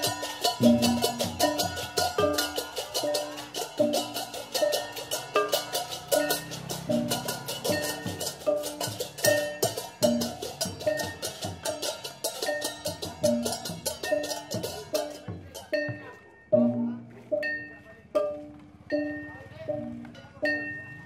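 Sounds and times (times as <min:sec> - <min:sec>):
bell-like struck notes: 0:00.0 - 0:21.0
rapid percussion strikes: 0:00.0 - 0:21.0.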